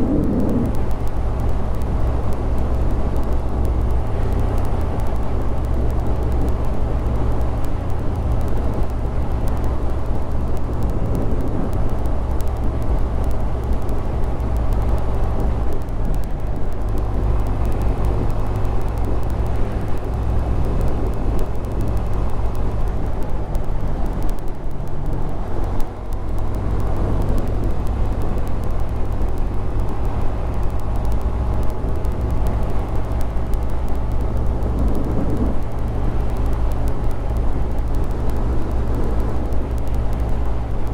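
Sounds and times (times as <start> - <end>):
wind rumble on microphone: 0.0 - 40.9.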